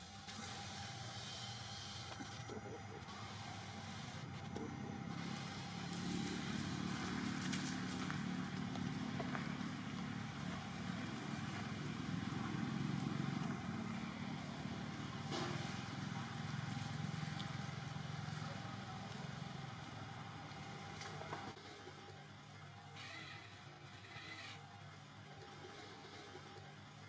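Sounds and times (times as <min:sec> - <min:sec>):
motor engine humming: 0:00.0 - 0:27.0.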